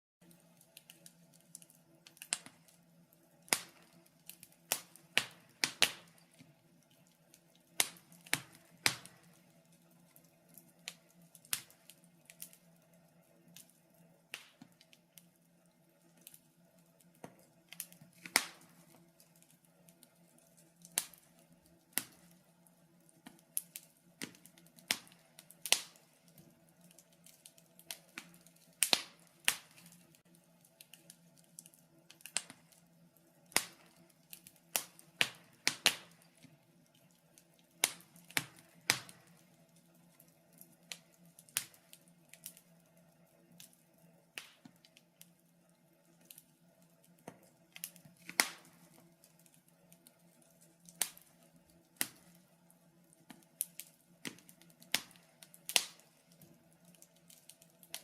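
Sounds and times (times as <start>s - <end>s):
fireplace fire crackling: 0.2s - 58.0s.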